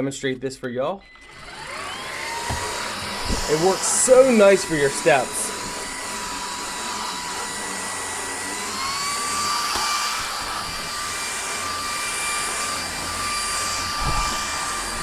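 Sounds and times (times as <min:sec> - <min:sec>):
stick vacuum motor whine: 0:01.0 - 0:15.0.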